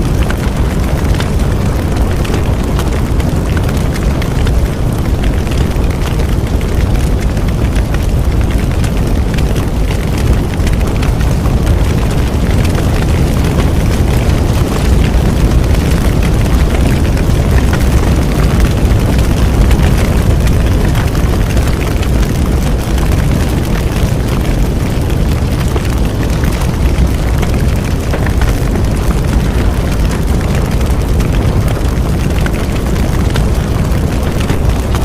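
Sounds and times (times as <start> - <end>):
bonfire rumble: 0.0 - 35.0
fire crackling and popping: 0.0 - 35.0.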